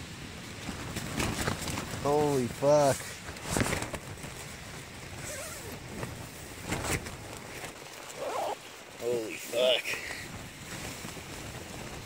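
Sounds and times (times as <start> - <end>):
wind flapping tent walls: 0.0 - 12.0.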